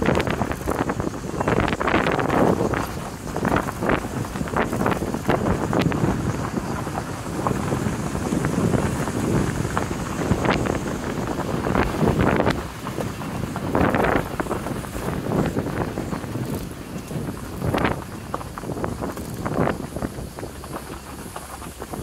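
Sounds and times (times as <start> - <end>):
tyres crunching on gravel: 0.0 - 22.0
wind buffeting microphone: 0.0 - 22.0.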